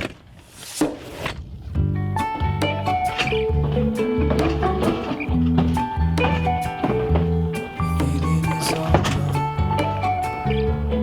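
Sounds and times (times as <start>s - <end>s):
instrumental pop music: 2.0s - 11.0s.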